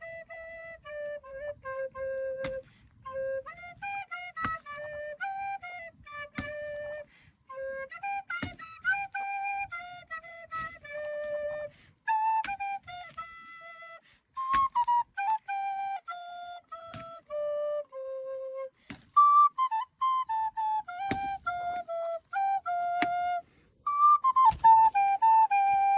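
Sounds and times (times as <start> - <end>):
slow flute melody: 0.0 - 25.9.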